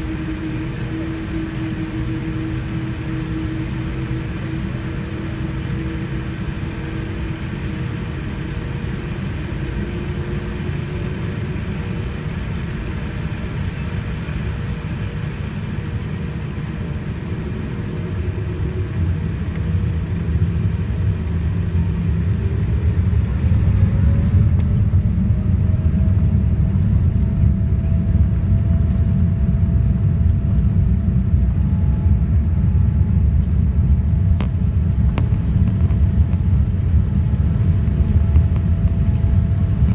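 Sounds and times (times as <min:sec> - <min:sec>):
jet engines rumbling with whine: 0:00.0 - 0:39.9.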